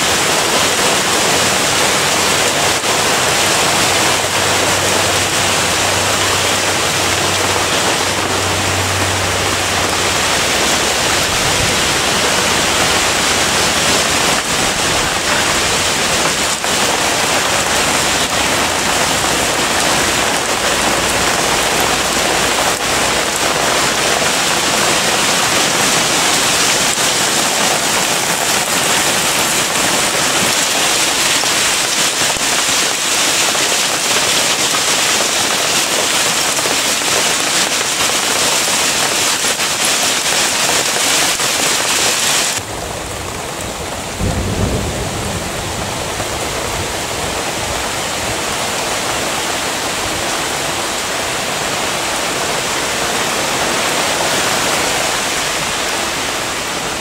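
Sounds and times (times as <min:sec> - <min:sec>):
hail and rain pelting leaves: 0:00.0 - 0:57.0.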